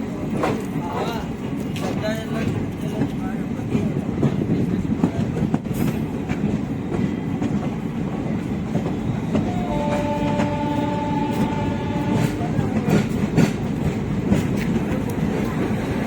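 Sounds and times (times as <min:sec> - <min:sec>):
train wheels rumbling and clicking: 0:00.0 - 0:16.0.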